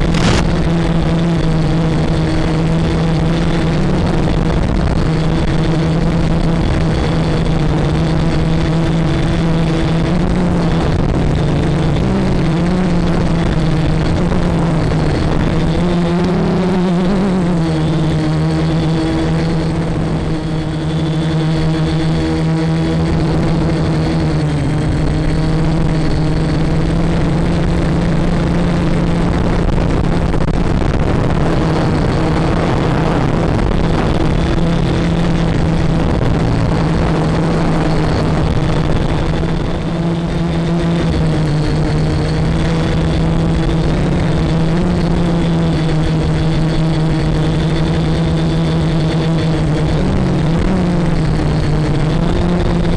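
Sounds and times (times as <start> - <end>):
drone motors and propellers humming: 0.0 - 52.9.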